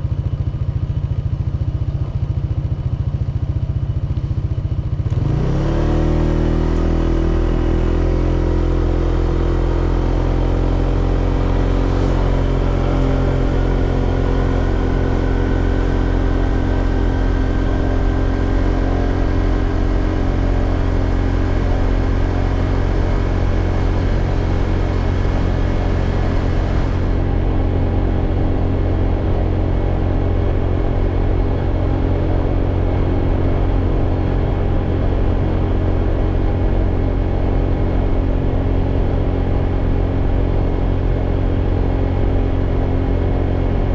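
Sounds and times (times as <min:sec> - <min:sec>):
scooter engine idling: 0:00.0 - 0:05.3, 0:07.6 - 0:43.9.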